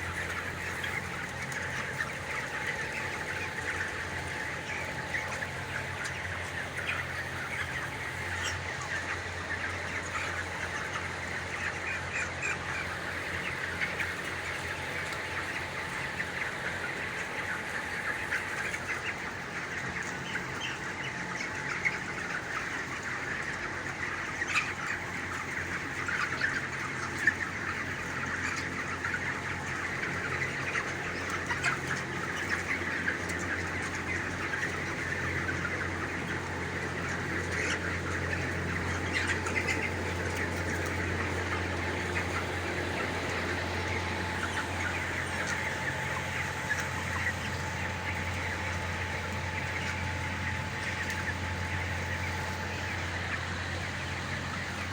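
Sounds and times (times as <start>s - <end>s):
chicks cheeping and chirping: 0.0s - 54.9s.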